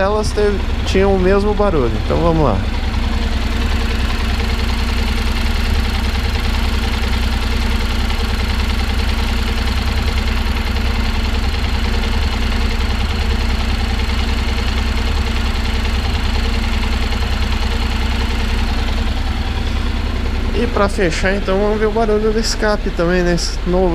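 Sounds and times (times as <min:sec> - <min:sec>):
motorcycle engine idling with clatter: 0:00.0 - 0:23.9.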